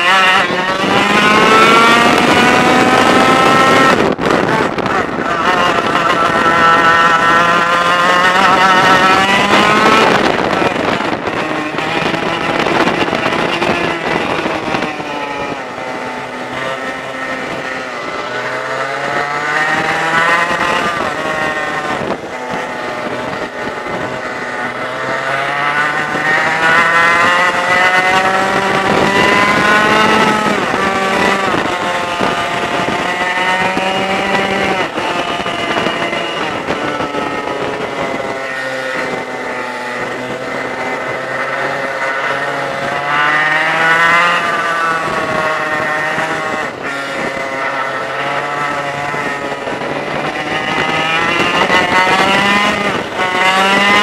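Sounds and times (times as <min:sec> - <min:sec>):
kart engine revving: 0:00.0 - 0:54.0
other kart engines: 0:00.0 - 0:54.0.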